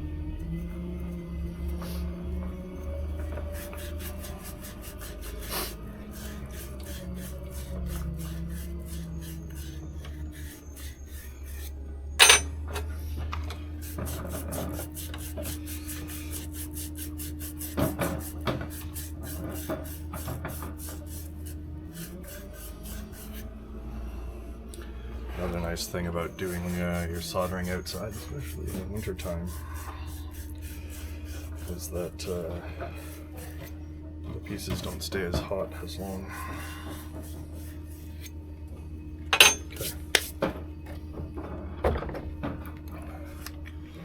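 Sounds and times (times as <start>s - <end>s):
abrasive scrubbing copper pipe: 0.6s - 12.6s, 13.7s - 23.6s, 25.4s - 38.4s, 39.3s - 40.4s.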